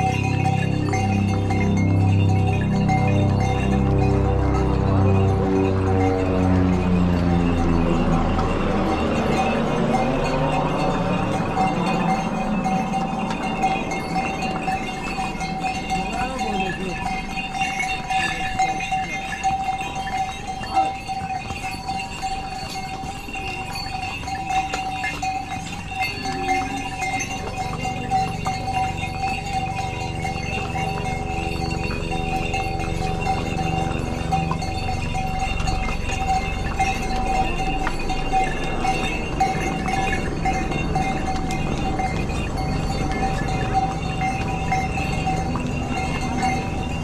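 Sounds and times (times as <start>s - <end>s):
low drone: 0.0s - 20.7s, 22.5s - 47.0s
hooves clip-clopping on stone: 0.0s - 47.0s
pony bells jingling: 0.0s - 47.0s.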